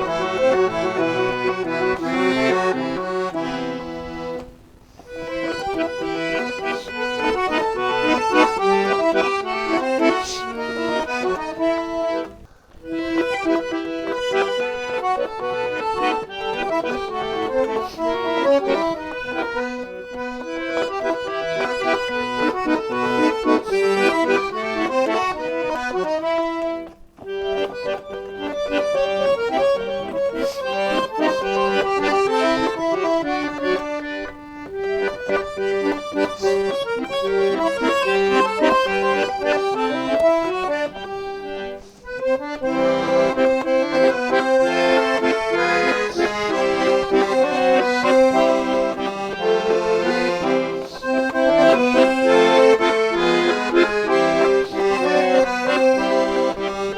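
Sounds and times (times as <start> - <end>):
accordion music: 0.0 - 56.9.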